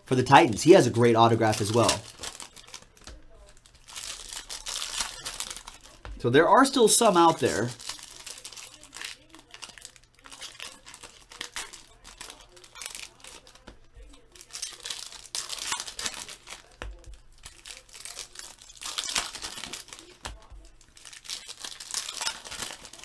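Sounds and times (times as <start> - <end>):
foil wrappers crinkling and tearing: 0.0 - 23.0.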